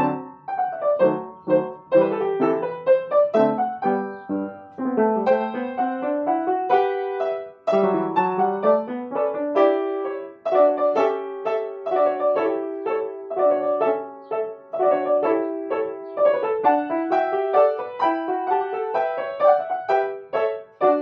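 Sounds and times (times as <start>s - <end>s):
upright piano playing: 0.0s - 21.0s.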